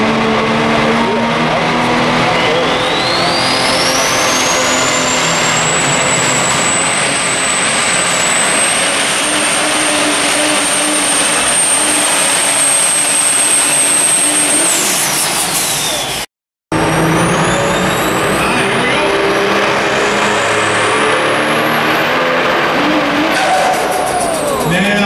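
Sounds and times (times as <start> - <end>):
diesel pulling truck running flat out: 0.0 - 25.0
high turbocharger whistle: 2.2 - 25.0.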